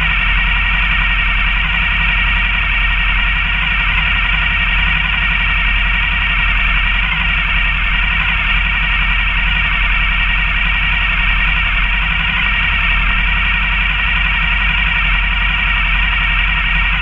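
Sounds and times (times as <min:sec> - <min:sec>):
distorted engines idling: 0:00.0 - 0:17.0.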